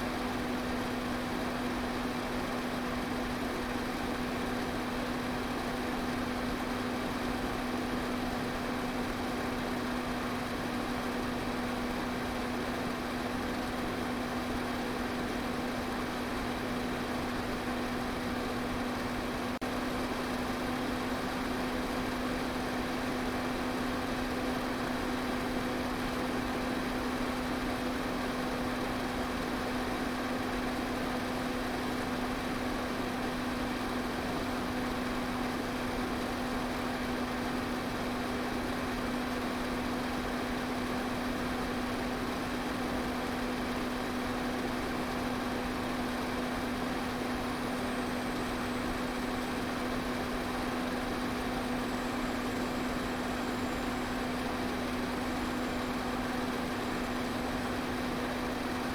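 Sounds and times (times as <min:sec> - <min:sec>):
fan motor hum: 0:00.0 - 0:58.9.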